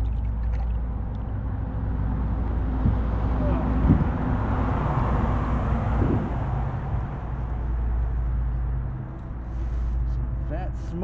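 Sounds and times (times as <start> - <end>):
low traffic rumble: 0.0 - 11.0
vehicle tyre noise passing: 0.0 - 11.0.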